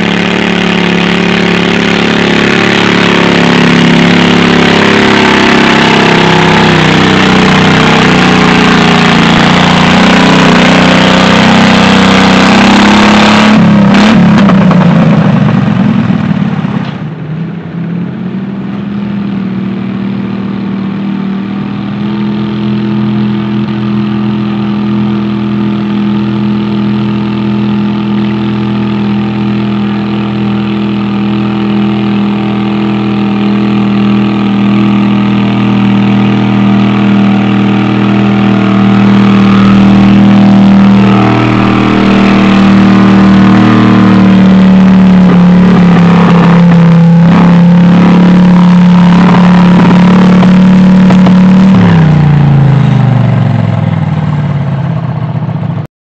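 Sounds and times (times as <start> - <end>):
tractor engine idling fast: 0.0 - 55.9.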